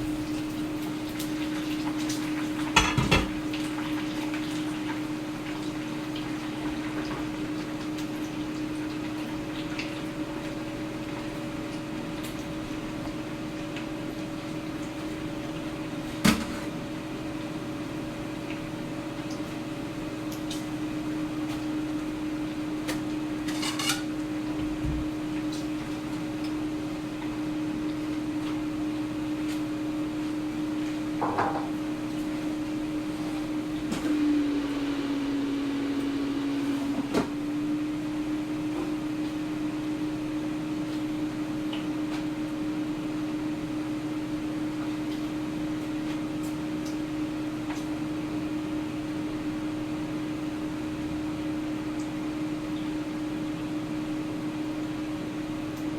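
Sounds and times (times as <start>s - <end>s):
air fryer fan whirring: 0.0s - 55.9s.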